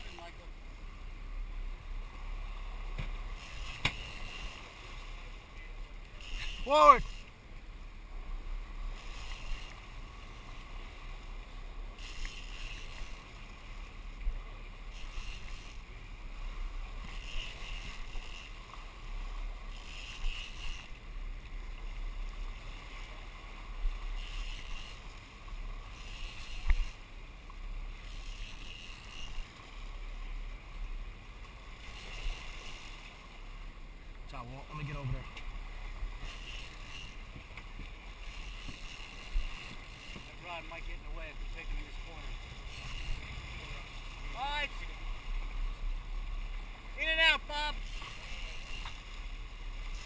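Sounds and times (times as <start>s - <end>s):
boat engine rumbling: 0.0s - 50.0s
water washing along hull: 0.0s - 50.0s.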